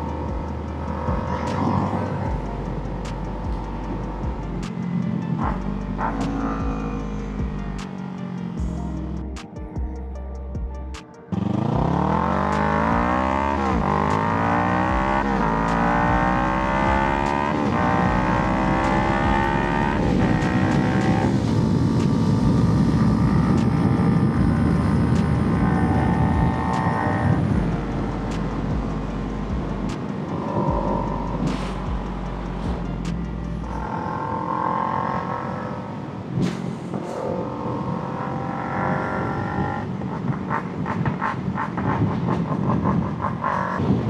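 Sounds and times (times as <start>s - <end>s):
motorcycle engine accelerating: 0.0s - 9.3s, 11.3s - 36.4s, 37.0s - 44.0s
rushing wind noise: 0.0s - 9.8s, 11.3s - 44.0s.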